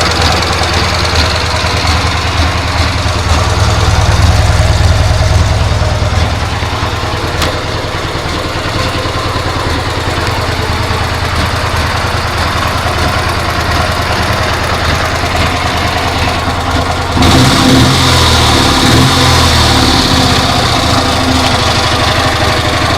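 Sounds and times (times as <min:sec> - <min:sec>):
engine knock: 0:00.0 - 0:22.9
motorcycle engine idling: 0:00.0 - 0:22.9.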